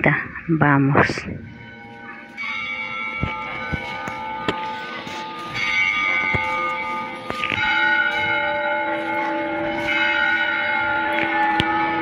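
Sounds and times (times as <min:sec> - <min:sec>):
church bells ringing: 0:01.4 - 0:12.0.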